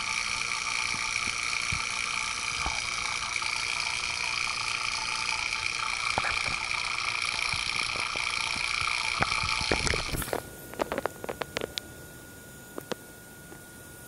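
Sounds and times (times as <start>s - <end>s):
vacuum pump whining hiss: 0.0s - 14.0s.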